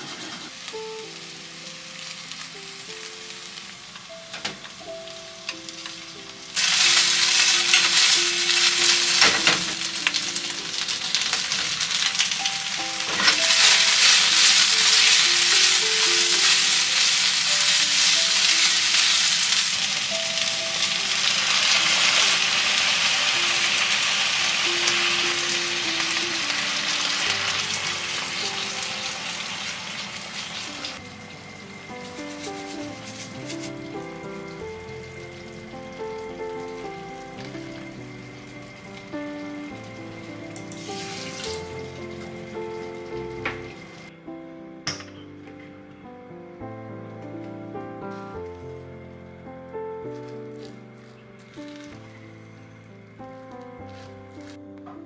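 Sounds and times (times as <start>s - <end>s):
food sizzling in frying pan: 0.0s - 44.1s.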